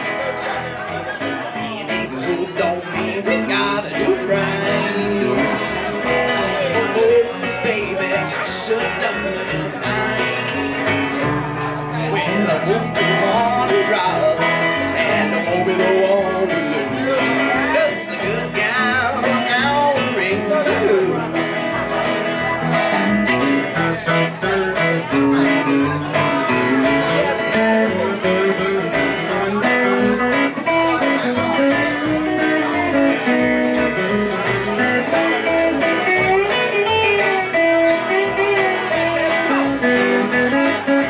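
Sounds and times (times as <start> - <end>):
guitars playing: 0.0 - 41.0
plucked upright bass: 0.0 - 41.0.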